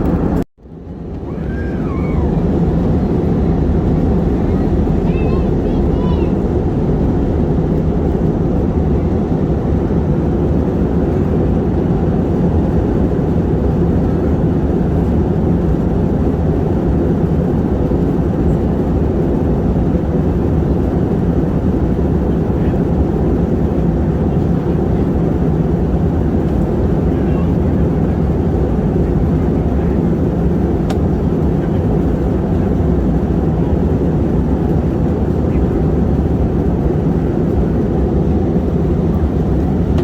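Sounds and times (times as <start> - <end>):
airliner cabin engine drone: 0.0 - 40.0.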